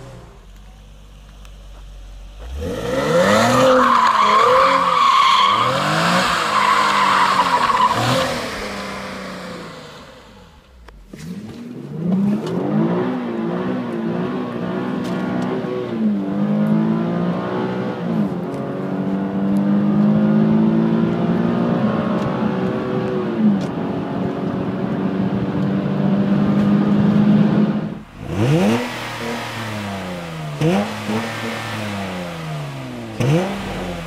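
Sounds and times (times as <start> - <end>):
car engine accelerating hard: 2.3 - 34.0.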